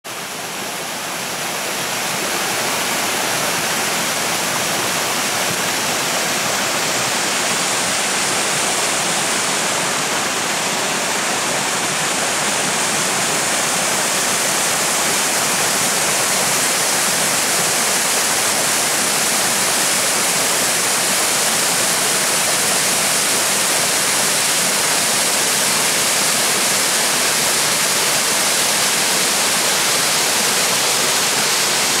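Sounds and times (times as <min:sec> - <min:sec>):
waterfall rushing: 0:00.1 - 0:32.0.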